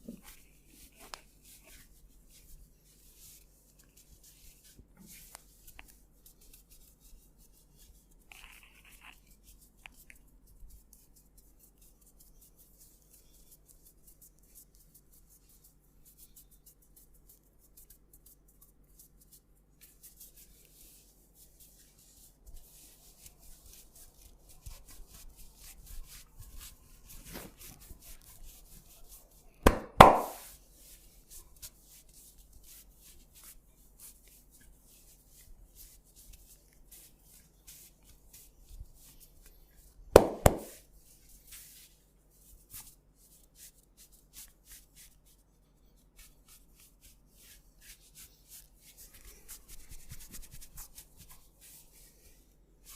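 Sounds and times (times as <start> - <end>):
hands rubbing head: 0.0 - 52.9.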